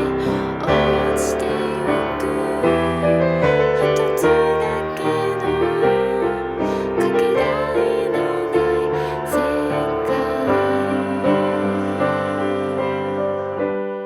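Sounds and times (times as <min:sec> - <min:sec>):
piano accompaniment: 0:00.0 - 0:14.0.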